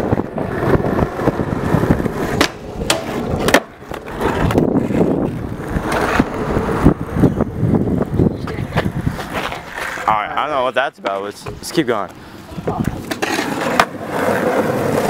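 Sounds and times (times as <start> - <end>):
skateboard clacks: 0.0 - 7.2, 8.0 - 10.1, 11.0 - 15.0
skateboard wheels rumbling on asphalt: 0.0 - 15.0.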